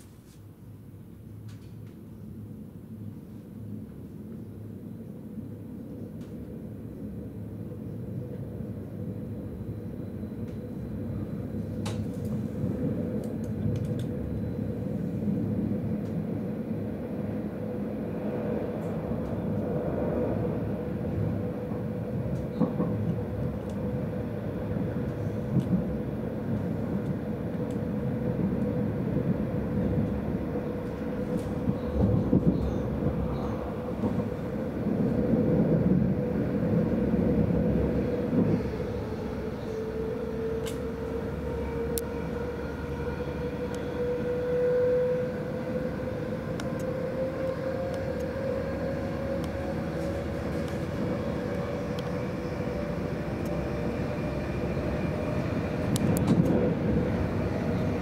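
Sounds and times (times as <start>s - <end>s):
train wheels rumbling on rails: 5.4s - 58.0s.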